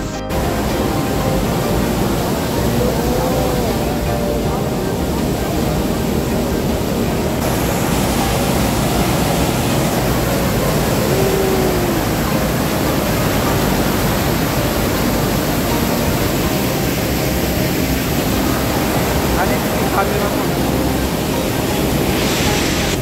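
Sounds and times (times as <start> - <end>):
waterfall crashing: 0.0 - 23.0.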